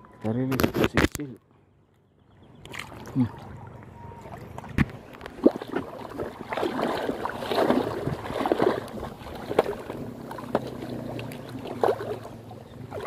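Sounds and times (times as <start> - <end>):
water sloshing around wading legs: 2.3 - 13.0.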